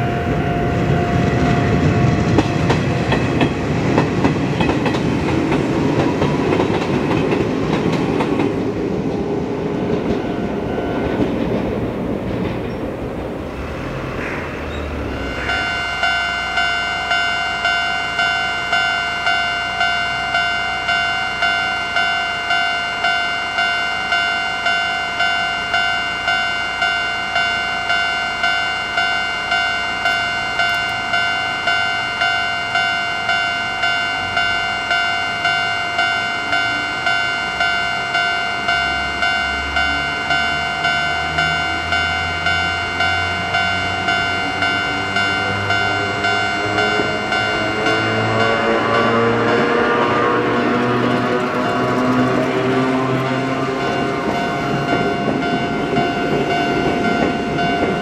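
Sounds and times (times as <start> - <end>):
level crossing warning bell: 0.0 - 58.0
low train rumble: 0.0 - 58.0.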